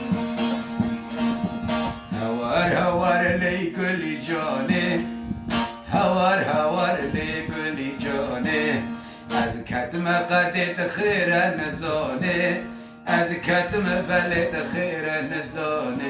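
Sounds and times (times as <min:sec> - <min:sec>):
plucked string melody: 0:00.0 - 0:16.0.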